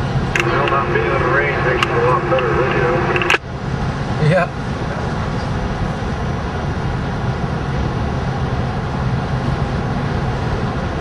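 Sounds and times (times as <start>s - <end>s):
road and engine noise inside a van: 0.0s - 11.0s.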